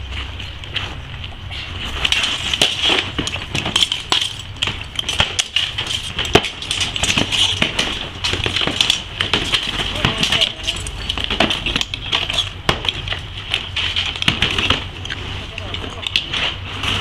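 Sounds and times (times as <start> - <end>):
mail armour rattling: 1.7 - 17.0.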